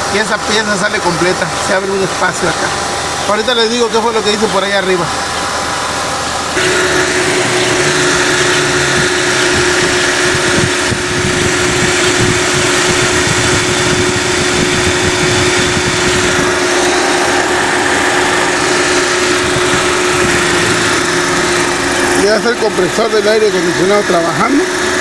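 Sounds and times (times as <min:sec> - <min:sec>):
car engine running: 0:00.0 - 0:25.0
steady whine: 0:00.0 - 0:25.0.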